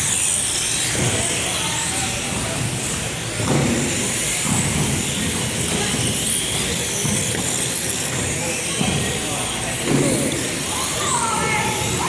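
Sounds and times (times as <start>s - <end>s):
high-pitched rc car motor whine: 0.0s - 3.3s, 4.0s - 12.0s.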